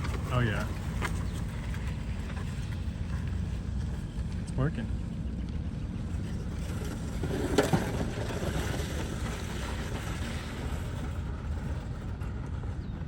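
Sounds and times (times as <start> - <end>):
plow blade through dirt: 0.0 - 4.5, 6.0 - 13.0.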